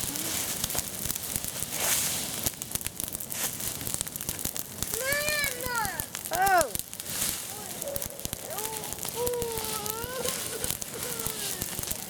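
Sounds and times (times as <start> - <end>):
fire hissing: 0.0 - 12.0
leaf bonfire crackling: 0.0 - 12.0.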